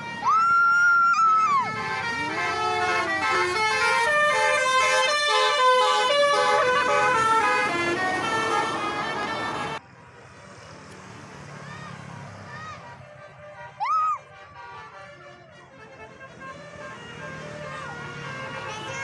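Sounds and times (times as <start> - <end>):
multi-tone musical bus horn: 0.0 - 9.8, 12.5 - 19.0.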